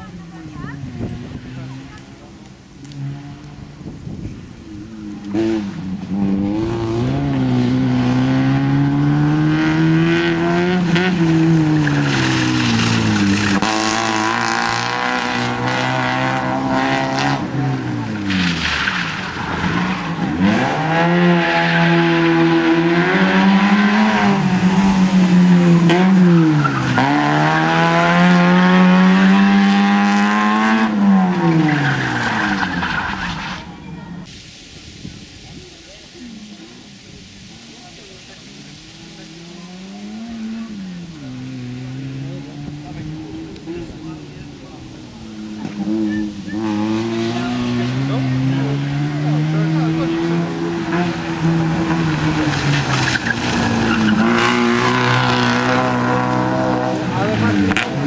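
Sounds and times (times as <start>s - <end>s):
rally car engine revving: 0.0s - 34.3s, 38.5s - 58.0s
tyres skidding on gravel: 0.0s - 58.0s.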